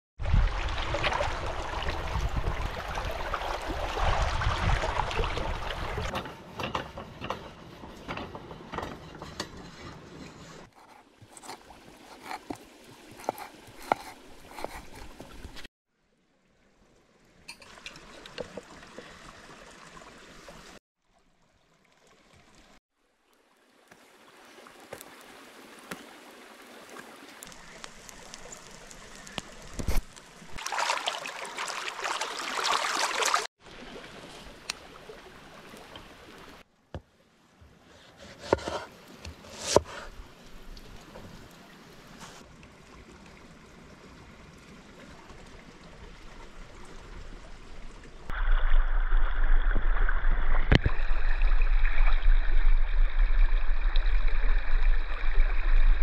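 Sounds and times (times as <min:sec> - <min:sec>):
water splashing and running: 0:00.2 - 0:08.7, 0:10.7 - 0:15.7, 0:17.5 - 0:22.8, 0:23.4 - 0:36.7, 0:38.9 - 0:56.0.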